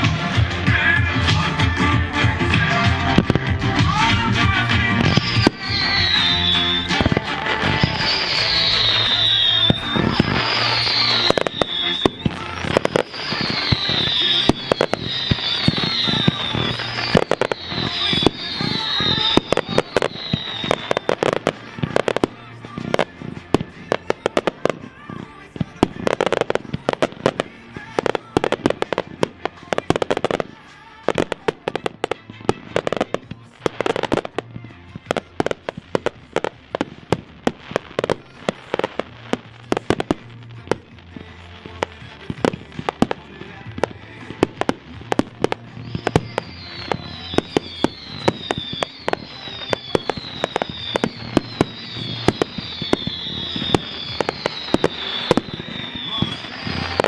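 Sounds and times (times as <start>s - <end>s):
fireworks bangs and crackling: 0.0s - 57.0s
whistling firework shots: 0.0s - 57.0s.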